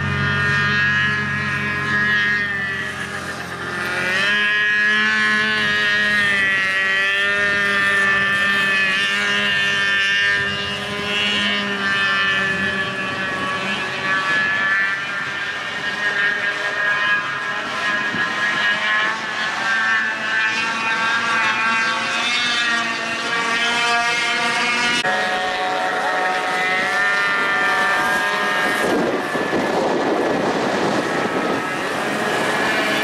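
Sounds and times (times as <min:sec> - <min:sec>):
atv engines racing: 0:00.0 - 0:33.0.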